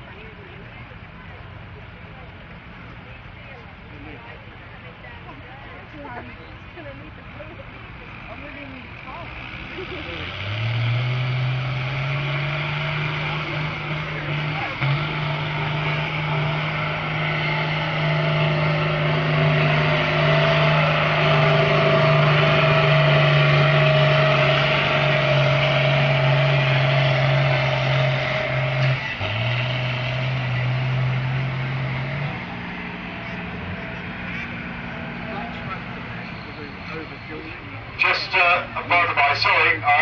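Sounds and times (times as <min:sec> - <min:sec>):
tractor engine running hard: 0:00.0 - 0:40.0.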